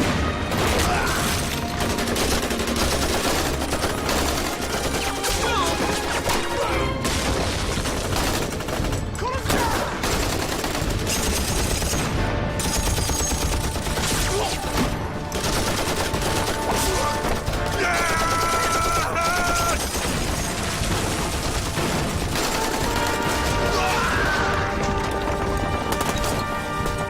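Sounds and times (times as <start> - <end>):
background music: 0.0 - 27.0
rifles and machine guns firing: 0.0 - 27.0.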